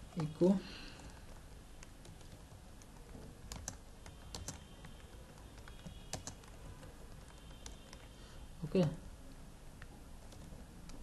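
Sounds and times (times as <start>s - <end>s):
keyboard typing: 0.0s - 8.2s, 9.8s - 11.0s.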